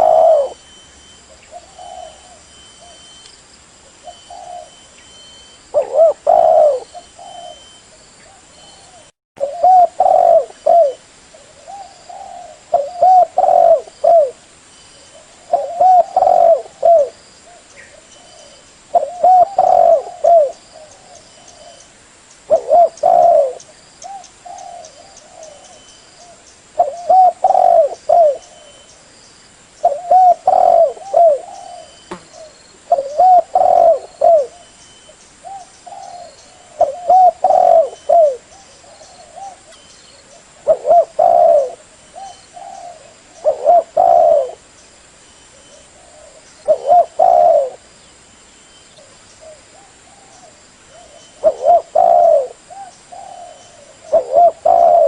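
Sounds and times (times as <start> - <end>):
dove cooing: 0.0 - 3.1, 4.0 - 4.9, 5.7 - 14.4, 15.0 - 21.8, 22.5 - 28.9, 29.8 - 34.8, 35.4 - 44.7, 45.5 - 47.8, 49.0 - 55.0.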